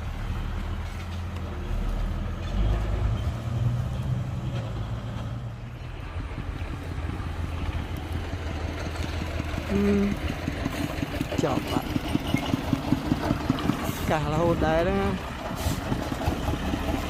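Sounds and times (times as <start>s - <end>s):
diesel engine of heavy machine: 0.0s - 17.0s.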